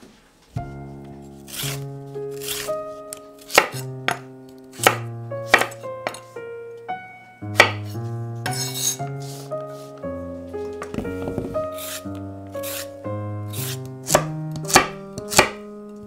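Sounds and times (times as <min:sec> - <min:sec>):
soft piano music: 0:00.4 - 0:16.0.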